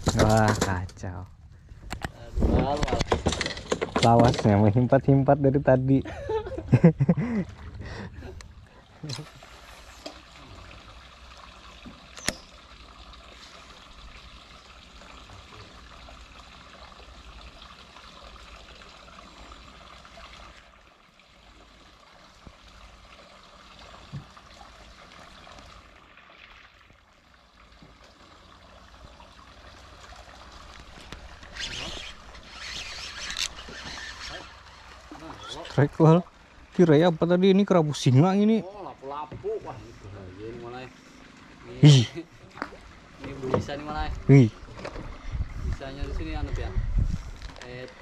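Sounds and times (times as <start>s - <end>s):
water lapping against boat hull: 0.0s - 48.0s.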